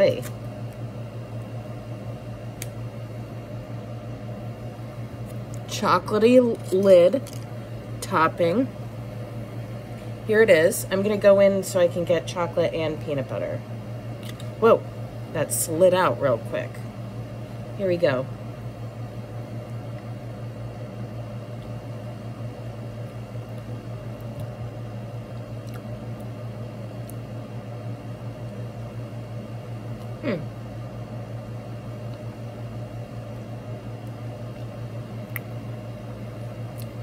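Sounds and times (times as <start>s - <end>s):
room tone hum: 0.0s - 37.0s.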